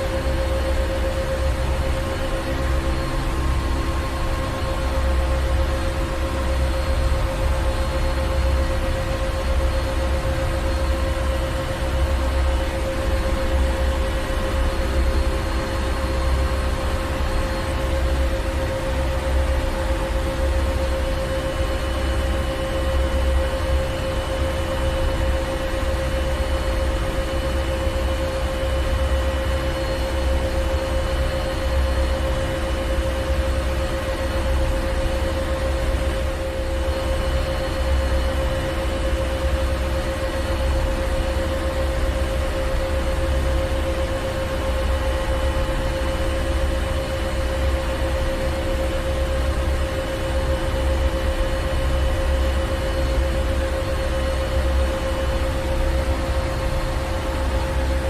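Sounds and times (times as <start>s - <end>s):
engine room machinery hum: 0.0s - 58.0s.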